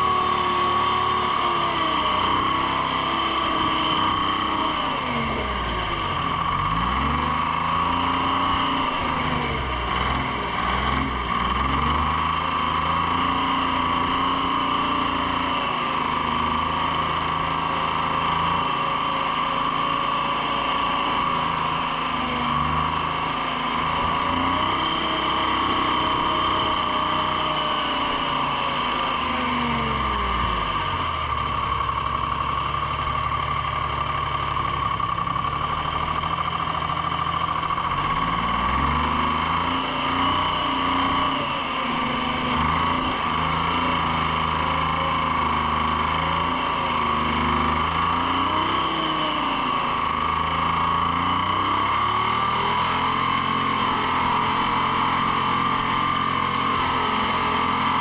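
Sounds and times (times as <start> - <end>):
heavy machine engine revving and idling: 0.0 - 58.0.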